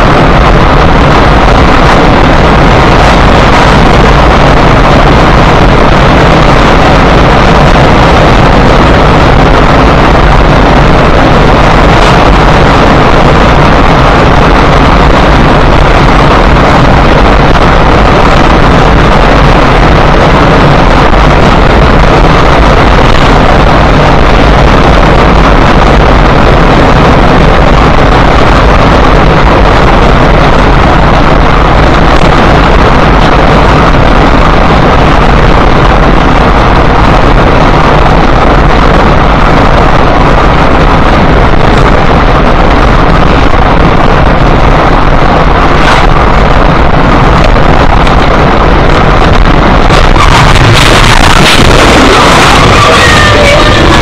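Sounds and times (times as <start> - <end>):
road and wind noise in car: 0.0 - 54.0.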